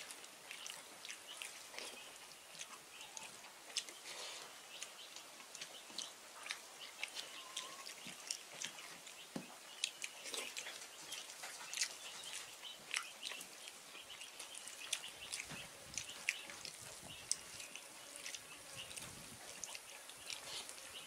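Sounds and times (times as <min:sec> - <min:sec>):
chewing: 0:00.0 - 0:21.0
wet clicks of fingers mixing rice: 0:00.0 - 0:21.0.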